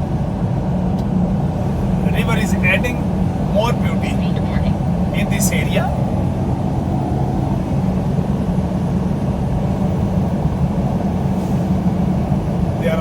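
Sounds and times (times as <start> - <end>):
vehicle interior road noise: 0.0 - 13.0.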